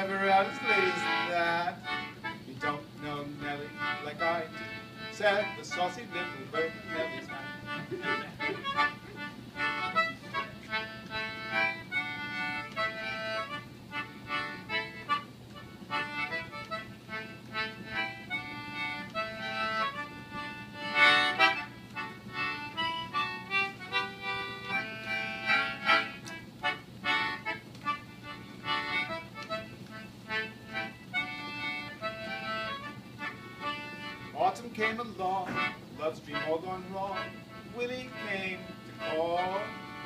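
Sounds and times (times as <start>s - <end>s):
instrumental music hall tune: 0.0s - 34.5s.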